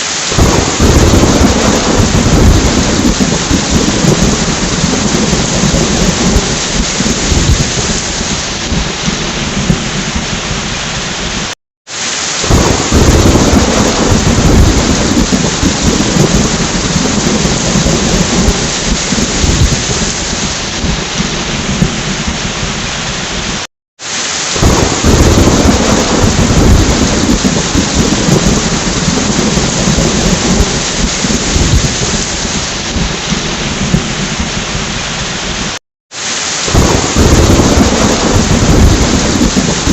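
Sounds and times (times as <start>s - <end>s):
heavy rain: 0.0s - 39.9s
rolling thunder: 0.3s - 11.5s, 12.4s - 23.6s, 24.6s - 35.8s, 36.7s - 39.9s.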